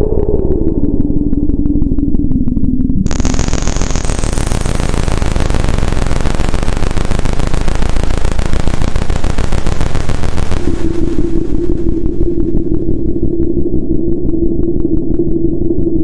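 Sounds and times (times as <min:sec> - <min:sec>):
low synthesizer drone: 0:00.0 - 0:16.0
steady mid-pitched tone: 0:00.0 - 0:16.0
synthesizer white noise: 0:00.0 - 0:16.0.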